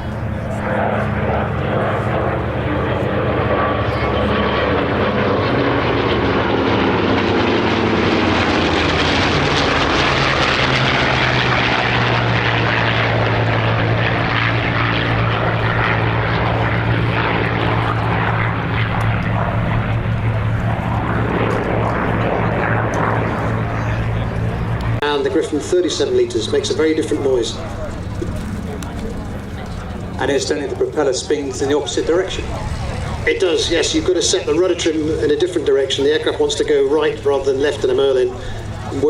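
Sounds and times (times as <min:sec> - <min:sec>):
piston aircraft engine flying past: 0:00.0 - 0:39.0.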